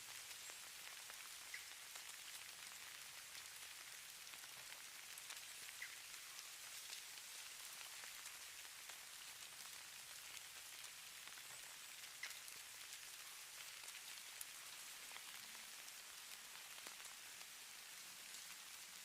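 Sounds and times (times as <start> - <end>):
faint hiss of falling snow: 0.0 - 19.0.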